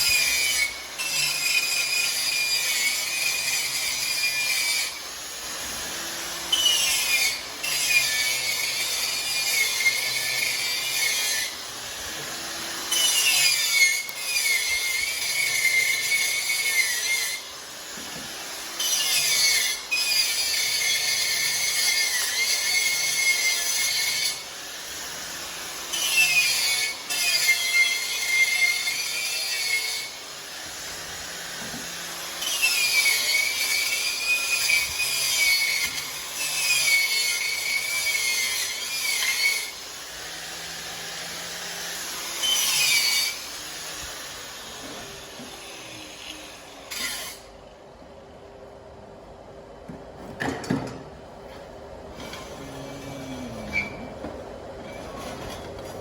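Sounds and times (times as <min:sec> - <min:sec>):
welding arc hissing and whining: 0:00.0 - 0:47.5, 0:52.1 - 0:54.2.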